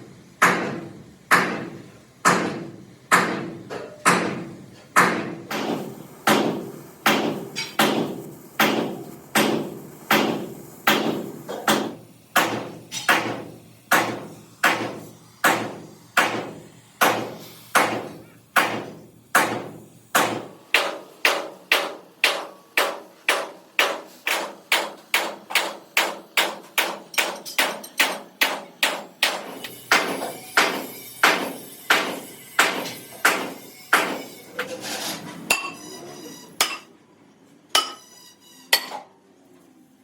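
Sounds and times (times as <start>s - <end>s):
hammer striking steel plate: 0.4s - 34.4s, 36.6s - 36.9s, 37.8s - 38.0s.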